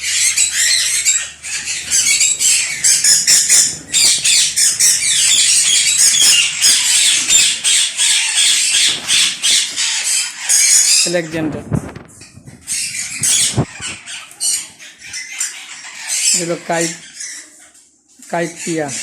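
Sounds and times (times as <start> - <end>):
parakeets squawking and screeching: 0.0 - 19.0.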